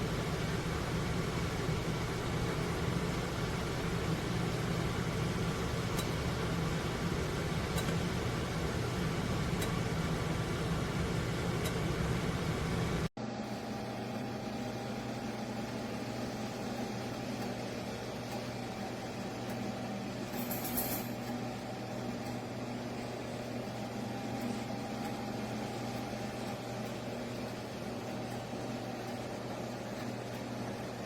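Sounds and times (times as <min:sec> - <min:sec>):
air fryer oven fan humming: 0:00.0 - 0:31.0.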